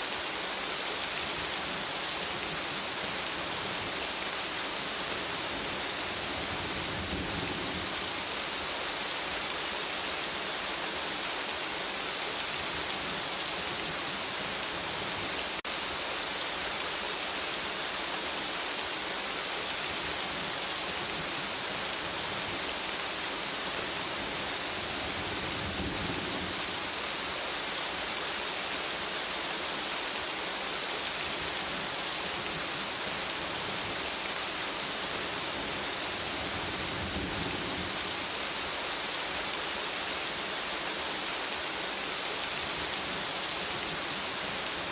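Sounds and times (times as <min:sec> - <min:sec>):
steady rain in a forest: 0:00.0 - 0:44.9.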